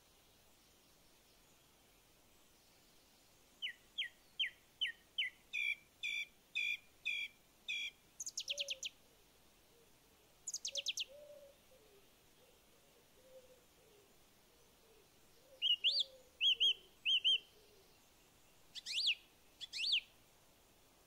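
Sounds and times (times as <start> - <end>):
songbird singing: 0.0 - 20.3.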